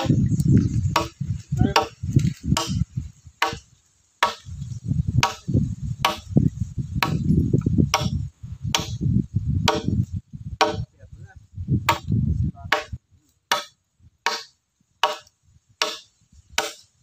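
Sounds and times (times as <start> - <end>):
dull low thuds: 0.0 - 17.0.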